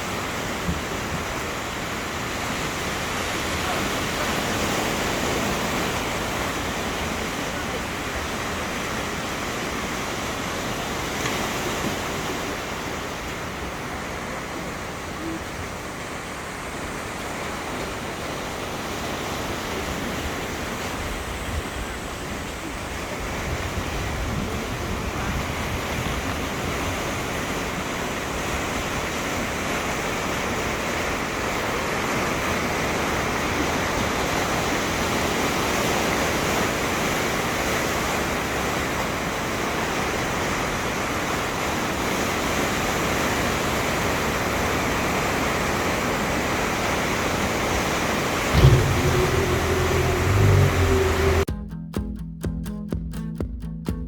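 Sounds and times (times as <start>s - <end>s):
sea waves washing onto shore: 0.0s - 51.5s.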